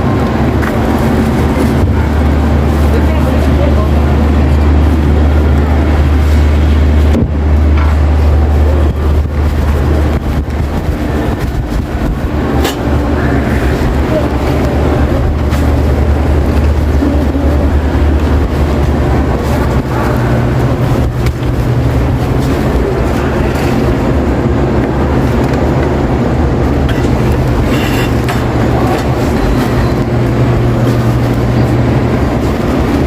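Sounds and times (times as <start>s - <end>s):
steady low hum: 0.0s - 33.0s
store noise: 0.0s - 33.0s.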